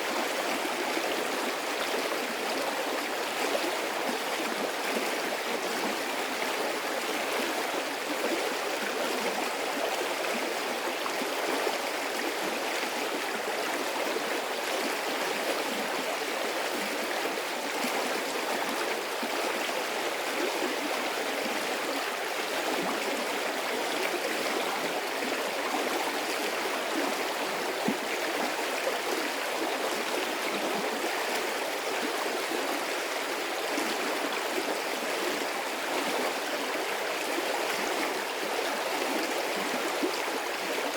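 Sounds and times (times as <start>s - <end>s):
stream of water running: 0.0s - 40.9s.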